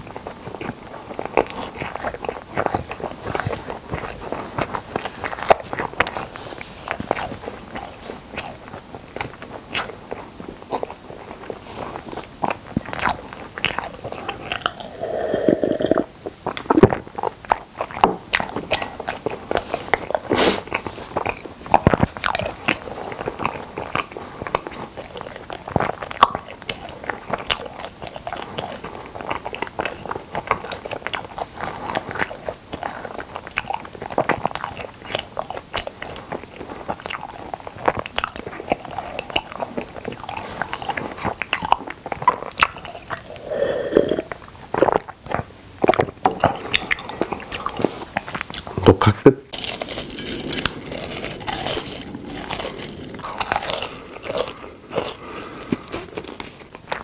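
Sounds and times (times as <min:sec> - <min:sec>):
wet chewing crunches: 0:00.0 - 0:57.0.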